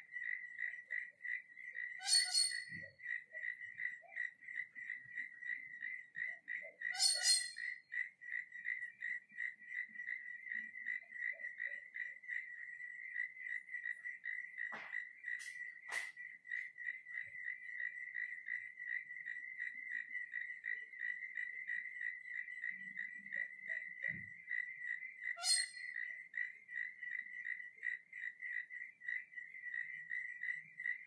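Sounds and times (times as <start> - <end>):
cricket chirping: 0.0 - 31.0.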